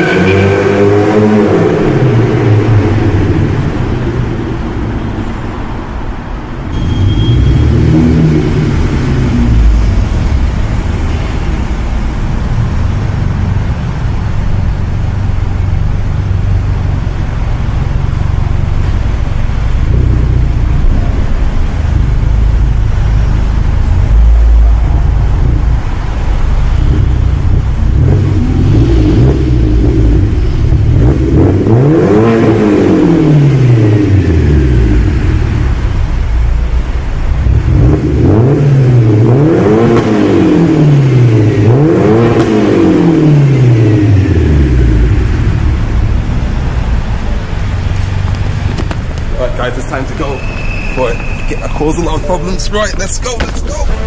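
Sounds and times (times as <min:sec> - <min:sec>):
car engine rumbling and revving: 0:00.0 - 0:54.0.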